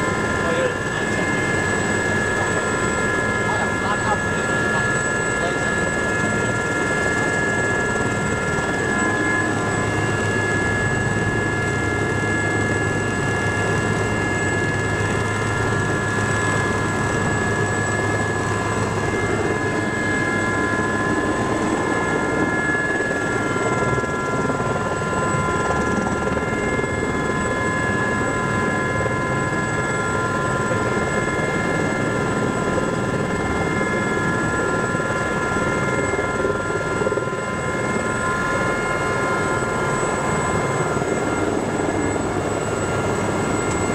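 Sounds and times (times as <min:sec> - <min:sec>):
helicopter engine and rotors: 0:00.0 - 0:43.9.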